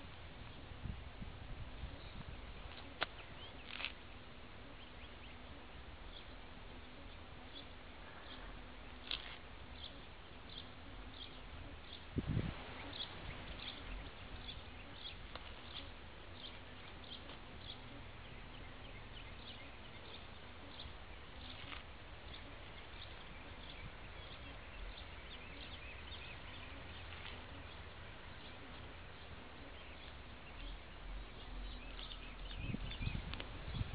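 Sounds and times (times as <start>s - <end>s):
birds chirping: 0.0s - 33.9s
low outdoor rumble: 0.0s - 33.9s.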